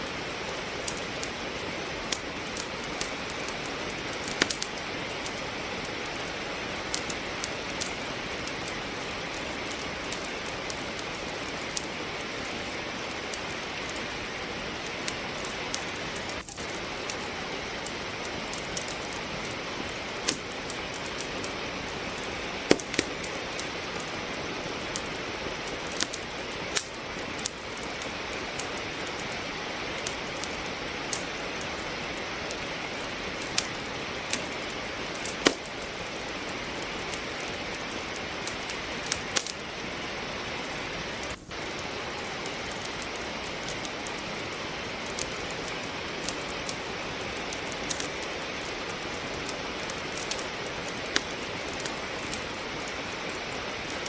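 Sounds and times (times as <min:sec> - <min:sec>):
steady rain hiss: 0:00.0 - 0:54.0
wood logs crackling and popping: 0:00.0 - 0:54.0.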